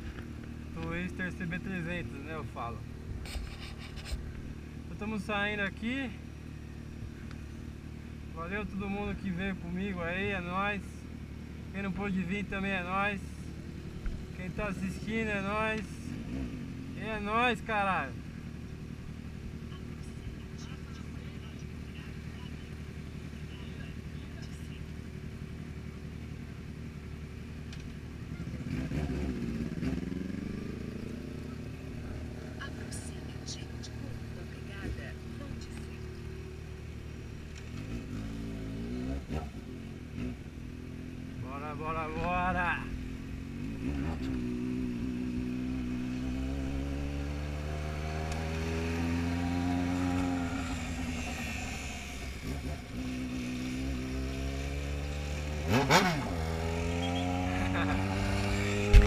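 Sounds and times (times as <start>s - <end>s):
motorcycle engines idling: 0.0s - 59.0s
motorcycle revving and pulling away: 0.0s - 59.0s.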